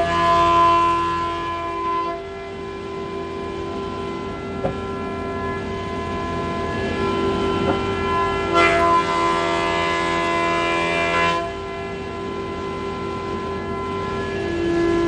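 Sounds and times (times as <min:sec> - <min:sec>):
planer thicknesser whining: 0:00.0 - 0:15.0.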